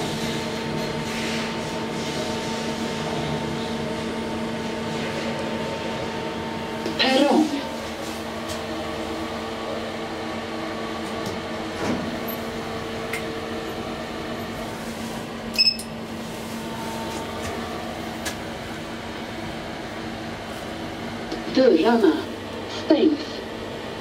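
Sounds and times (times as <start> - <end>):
elevator hum with tones: 0.0 - 24.0.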